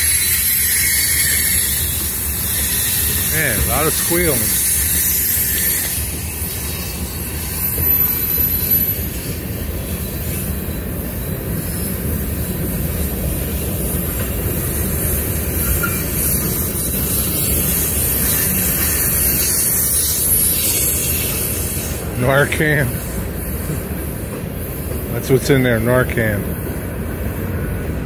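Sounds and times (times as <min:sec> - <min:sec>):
wheel squealing: 0:00.0 - 0:25.6
train wheels rumbling on rails: 0:00.0 - 0:28.0.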